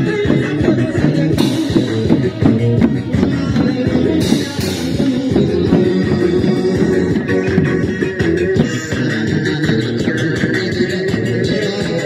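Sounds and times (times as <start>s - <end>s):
bass: 0.0s - 12.0s
drums: 0.0s - 12.0s
guitar: 0.0s - 12.0s
square-dance music: 0.0s - 12.0s.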